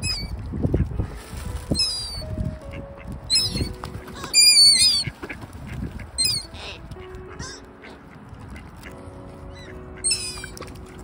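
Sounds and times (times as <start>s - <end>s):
gulls calling: 1.7s - 11.0s.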